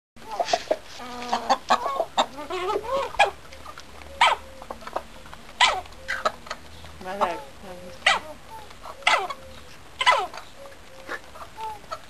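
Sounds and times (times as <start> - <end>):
chickens clucking: 0.2 - 12.0
hen loud sharp calls: 0.2 - 12.0.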